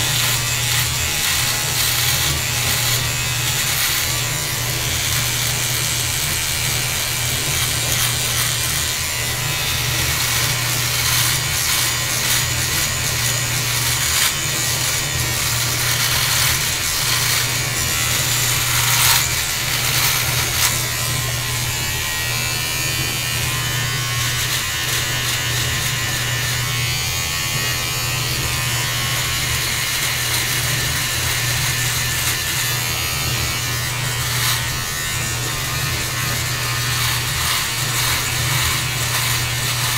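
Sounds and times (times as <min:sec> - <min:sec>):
electric beard trimmer buzzing: 0:00.0 - 0:39.9
trimmer blades cutting hair: 0:00.0 - 0:39.9.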